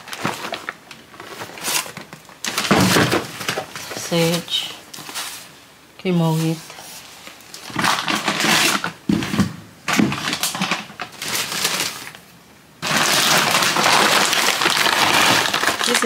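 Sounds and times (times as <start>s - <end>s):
plastic bag rustling and crinkling: 0.0s - 16.0s.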